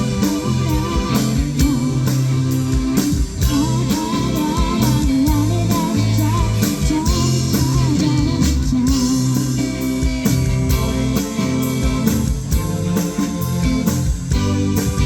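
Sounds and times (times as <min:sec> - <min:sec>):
bass: 0:00.0 - 0:15.0
guitar: 0:00.0 - 0:15.0
live band playing: 0:00.0 - 0:15.0.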